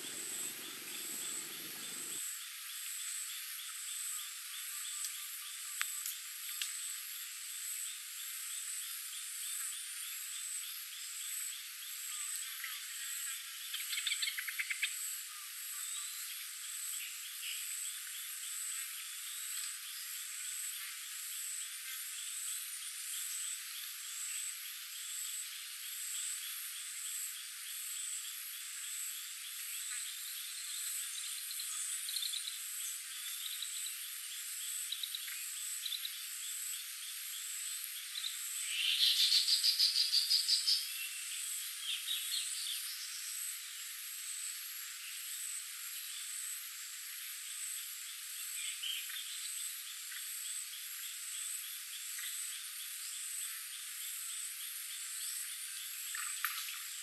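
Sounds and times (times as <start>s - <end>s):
frogs croaking: 0.0s - 57.0s
high insect buzz: 0.0s - 57.0s.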